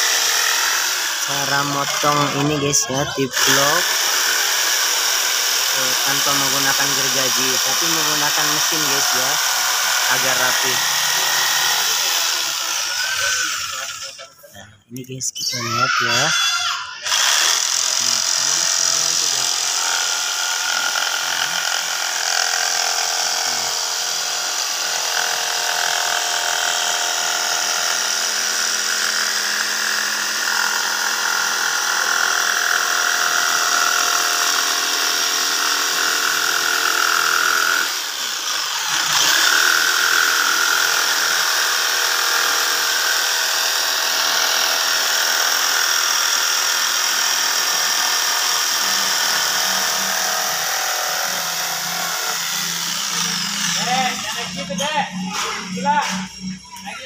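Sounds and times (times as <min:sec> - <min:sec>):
electric jigsaw sawing plywood: 0:00.0 - 0:14.3, 0:15.5 - 0:54.6.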